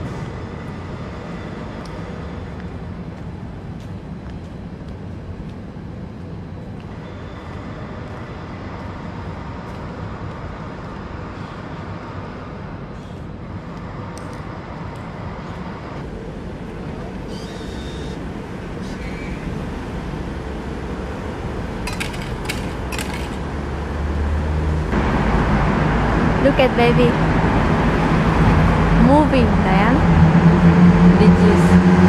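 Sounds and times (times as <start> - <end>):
vehicle rumble: 0.0 - 32.0.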